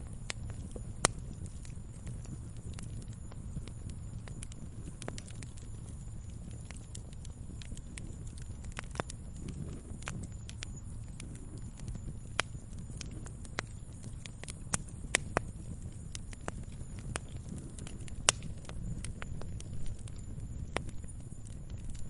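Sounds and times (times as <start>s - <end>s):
campfire crackling and popping: 0.0s - 22.0s
low rumble of flame: 0.0s - 22.0s.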